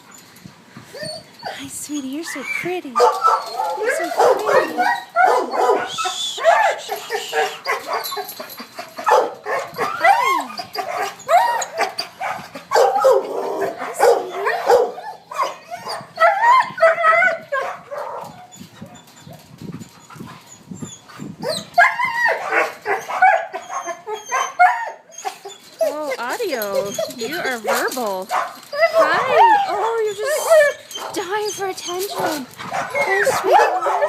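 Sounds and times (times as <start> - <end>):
dogs barking and whining: 0.0 - 34.0.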